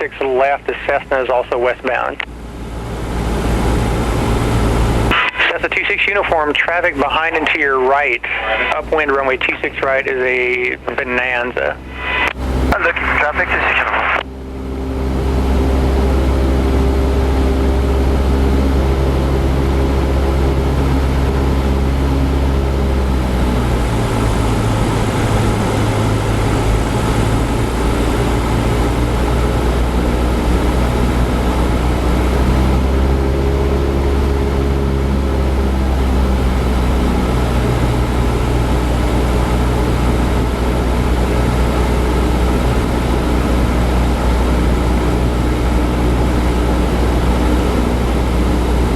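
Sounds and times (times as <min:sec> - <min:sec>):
propeller plane engine from cockpit: 0:00.0 - 0:48.9.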